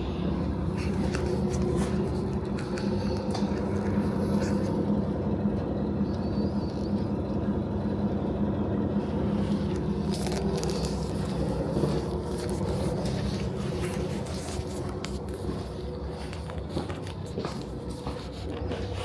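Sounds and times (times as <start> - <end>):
diesel railcar engine humming: 0.0 - 19.0.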